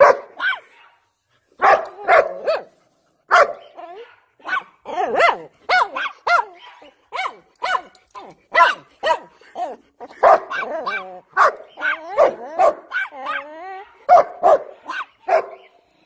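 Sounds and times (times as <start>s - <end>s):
dog barking: 0.0s - 1.0s, 1.6s - 2.7s, 3.3s - 7.9s, 8.5s - 9.3s, 10.1s - 15.7s.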